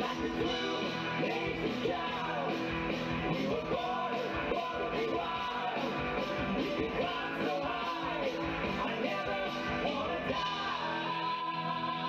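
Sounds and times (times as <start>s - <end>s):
drums: 0.0s - 12.0s
guitar: 0.0s - 12.0s
keyboard: 0.0s - 12.0s
men singing into microphones: 0.0s - 12.0s.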